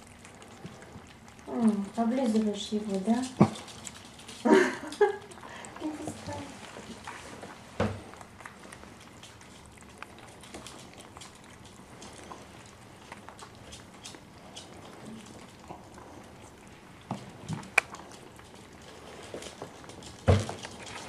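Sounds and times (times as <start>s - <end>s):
dog claws clicking on floor: 1.6s - 16.4s, 17.0s - 21.0s.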